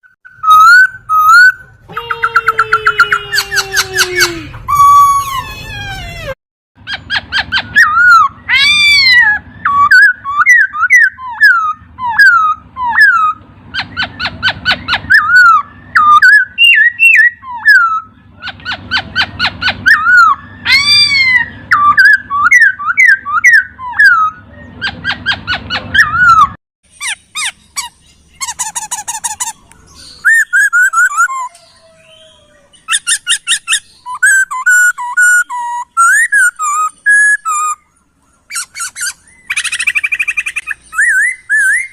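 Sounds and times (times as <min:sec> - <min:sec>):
laughingthrush singing: 0:00.3 - 0:41.9.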